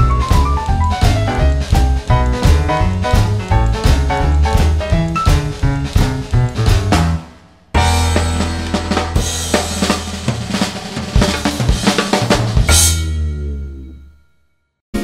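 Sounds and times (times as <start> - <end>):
instrumental music with drums: 0.0 - 13.4.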